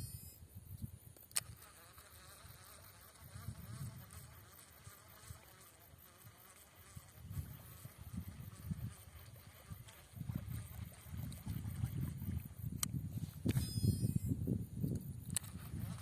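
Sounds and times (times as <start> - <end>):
insect buzzing: 0.0 - 16.0.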